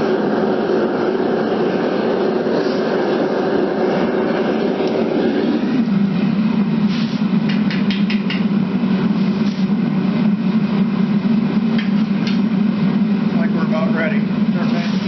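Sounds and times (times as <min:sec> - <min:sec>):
furnace burner roaring: 0:00.0 - 0:15.0.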